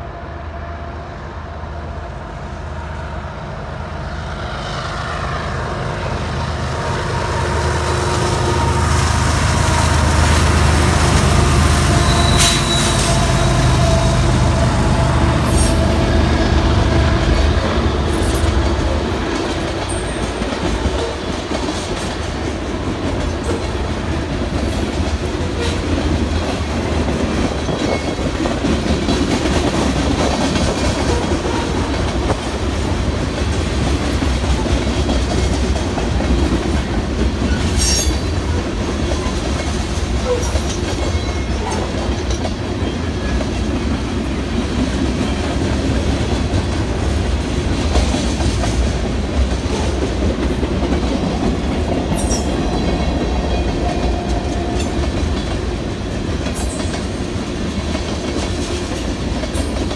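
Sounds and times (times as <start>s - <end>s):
diesel locomotive drone: 0.0s - 59.9s
freight train wheels rumbling: 0.0s - 59.9s
clickety-clack over rail joints: 10.2s - 59.9s.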